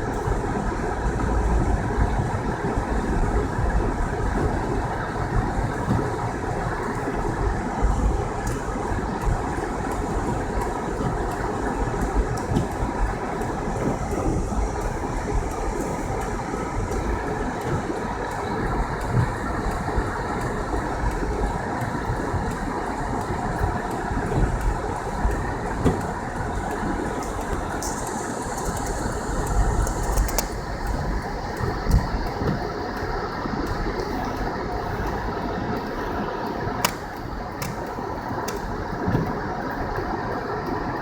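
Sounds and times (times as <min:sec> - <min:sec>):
tyres and engine rumble: 0:00.0 - 0:41.0.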